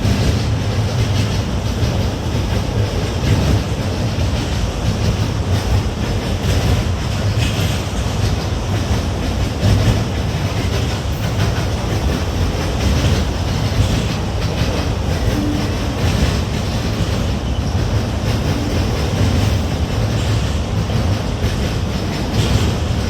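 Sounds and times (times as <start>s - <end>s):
freight train rumbling past: 0.0s - 23.0s
wheels clacking over rail joints: 0.0s - 23.0s.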